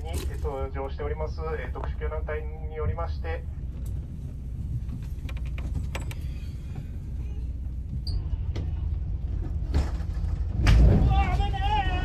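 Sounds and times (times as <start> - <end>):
low rumble aboard boat: 0.0 - 12.0.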